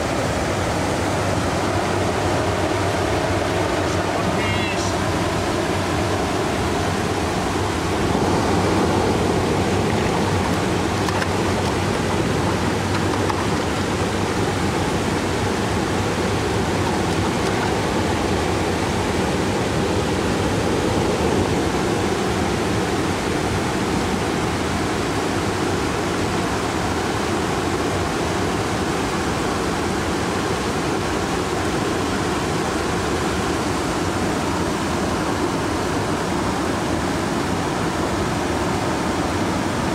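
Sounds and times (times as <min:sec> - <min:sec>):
river water pouring over weir: 0:00.0 - 0:39.9.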